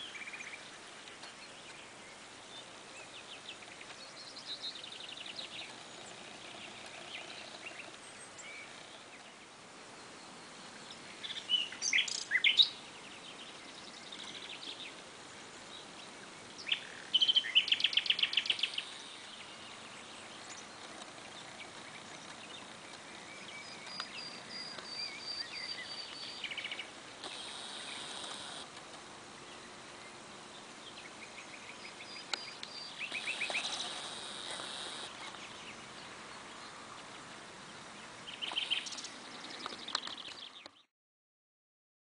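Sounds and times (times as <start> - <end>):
steady background hiss: 0.0 - 40.8
birds chirping and trilling: 0.0 - 40.9.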